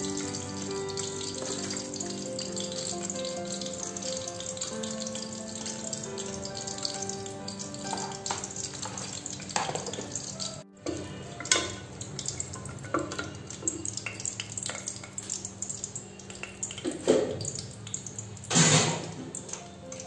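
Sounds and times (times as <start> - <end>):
spices sizzling in oil: 0.0 - 20.0.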